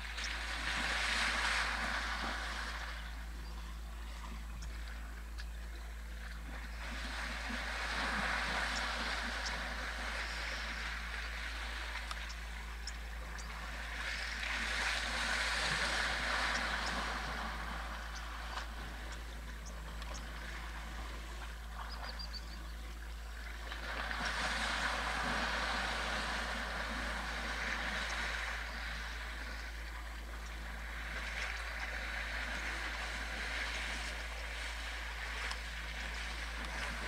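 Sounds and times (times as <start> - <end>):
water splashing and sloshing: 0.0 - 37.0.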